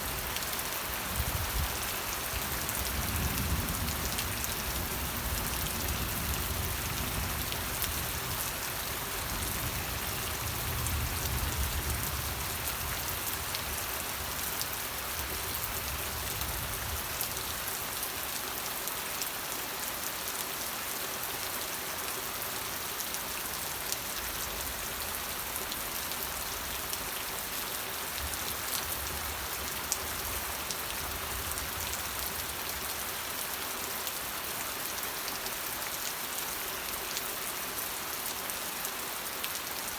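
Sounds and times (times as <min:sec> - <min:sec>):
rain falling on surface: 0:00.0 - 0:39.9.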